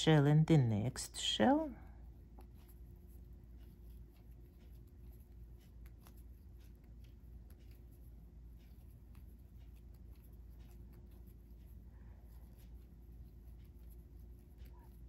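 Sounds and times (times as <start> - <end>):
crochet hook ticking and rustling: 0.0 - 15.0
low steady hum: 0.0 - 15.0.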